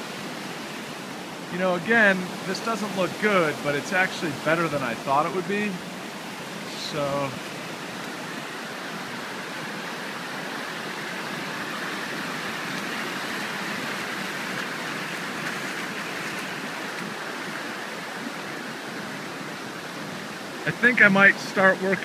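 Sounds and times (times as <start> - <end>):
water flowing over rocks: 0.0 - 22.0.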